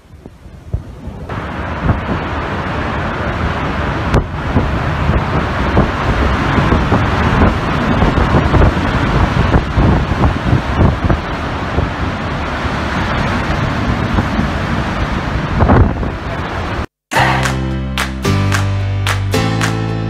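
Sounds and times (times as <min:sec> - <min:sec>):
wind buffeting microphone: 0:00.0 - 0:16.7
strong gusting wind: 0:00.0 - 0:17.5
driving rain: 0:00.3 - 0:20.0.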